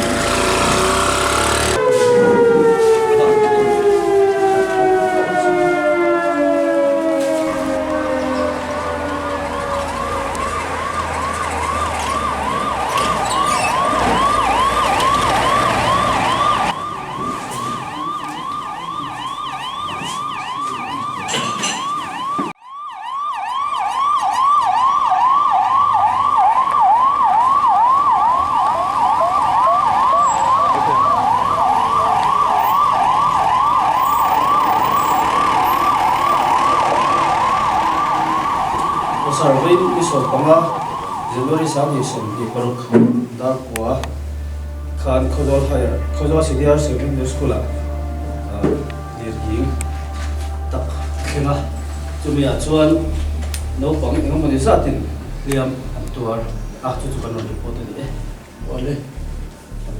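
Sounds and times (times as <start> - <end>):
siren yelping: 0.0 - 59.9.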